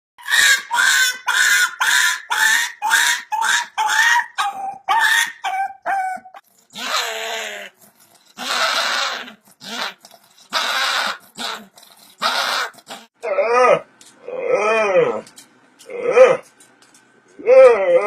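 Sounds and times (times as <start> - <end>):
dog yelping and howling: 0.2 - 15.2, 17.4 - 18.0.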